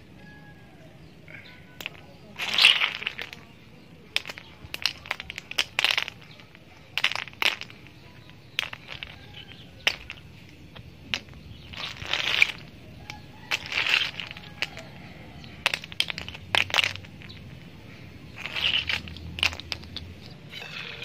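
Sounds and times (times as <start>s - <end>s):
snail shells clicking and clattering: 1.0s - 21.0s.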